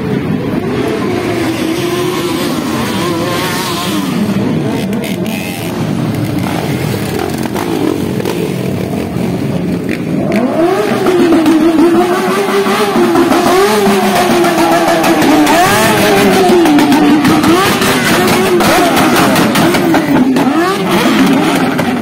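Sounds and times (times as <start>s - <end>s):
motorcycle engine revving: 0.0s - 22.0s
motorcycles riding past: 0.0s - 22.0s.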